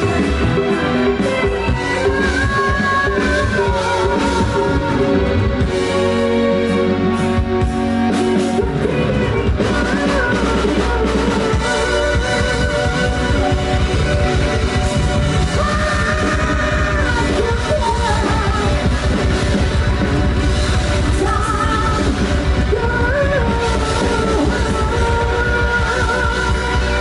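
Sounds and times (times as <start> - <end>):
person singing: 0.0 - 7.5, 8.2 - 19.4, 21.0 - 27.0
rock band playing: 0.0 - 27.0.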